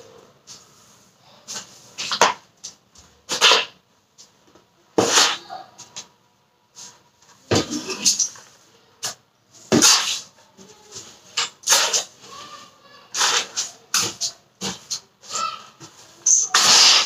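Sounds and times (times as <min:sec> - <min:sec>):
broom sweeping hard floor: 0:00.4 - 0:04.4, 0:05.0 - 0:06.1, 0:06.7 - 0:17.0.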